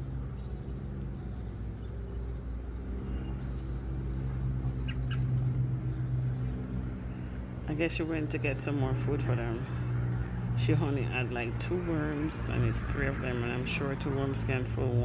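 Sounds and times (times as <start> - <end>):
crickets trilling: 0.0 - 15.0
low steady hum: 0.0 - 15.0.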